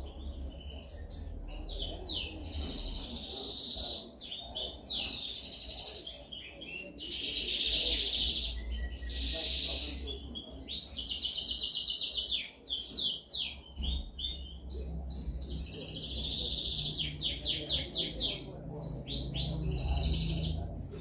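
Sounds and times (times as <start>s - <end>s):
canary singing trills: 0.0s - 21.0s.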